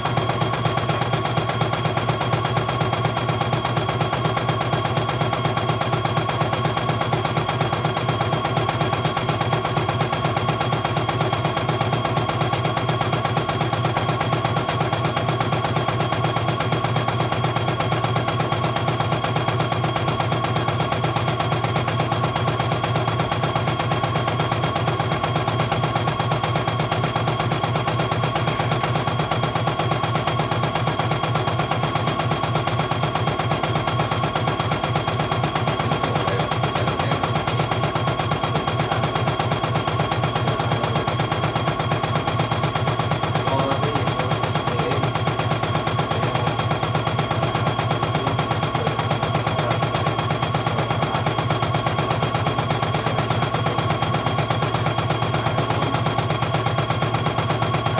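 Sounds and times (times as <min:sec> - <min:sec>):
embroidery machine needle clatter: 0:00.0 - 0:57.9.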